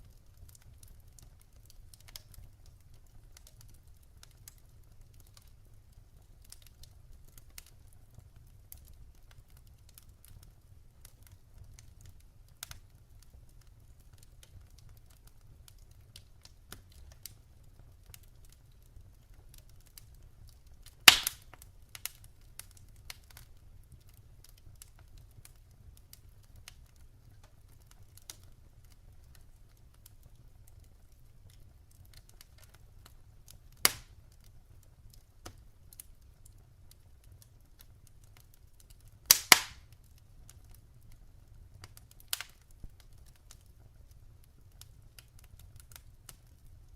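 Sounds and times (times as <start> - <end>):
burning logs popping: 0.0 - 46.9
fire small clicks: 0.0 - 46.9.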